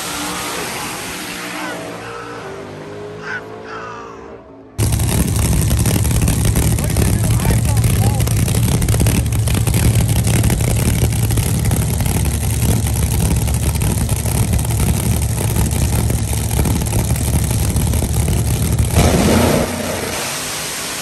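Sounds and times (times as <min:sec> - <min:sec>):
drag car engine revving: 0:00.0 - 0:04.0, 0:04.8 - 0:21.0.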